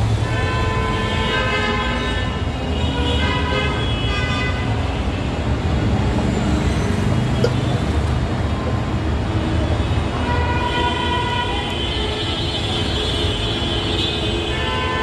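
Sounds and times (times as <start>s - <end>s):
roadside traffic rumble: 0.0s - 15.0s.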